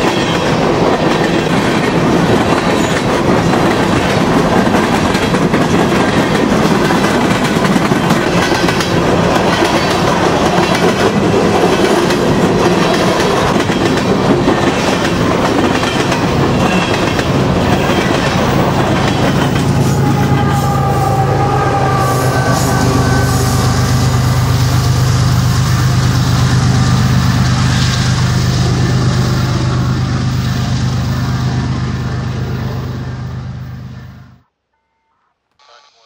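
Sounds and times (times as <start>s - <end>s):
train wheels clattering on rails: 0.0s - 32.5s
low train drone: 0.0s - 34.5s.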